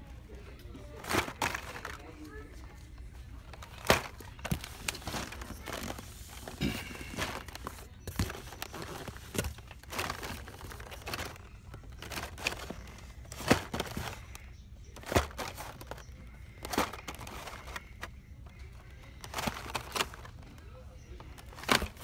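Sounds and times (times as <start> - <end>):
plastic and card crinkling: 0.1 - 22.0
cards clacking together: 3.5 - 20.6, 21.2 - 22.0.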